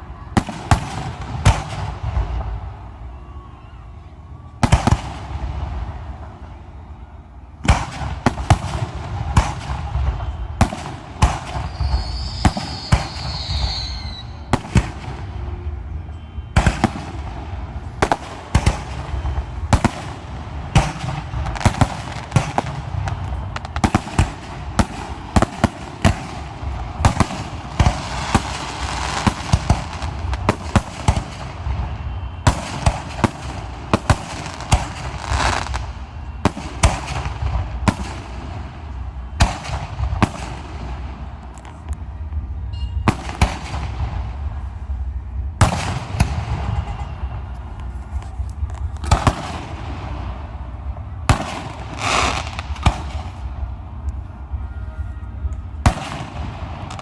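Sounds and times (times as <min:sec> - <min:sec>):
falling firework whistle: 0:00.2 - 0:41.9, 0:45.6 - 0:53.6.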